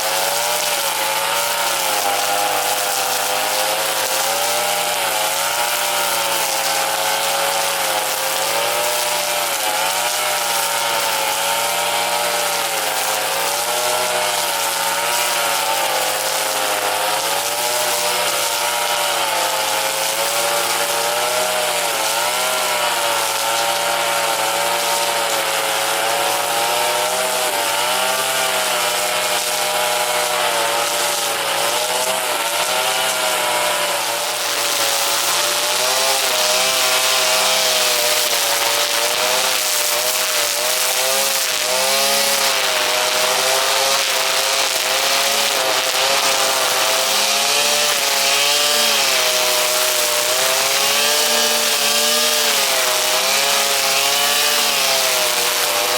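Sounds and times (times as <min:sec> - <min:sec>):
brush cutter engine high revs: 0:00.0 - 0:55.9.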